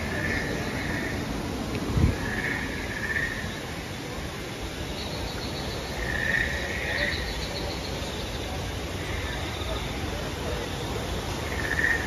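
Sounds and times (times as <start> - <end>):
insect chirping: 0.0 - 12.0
outdoor background noise: 0.0 - 12.0.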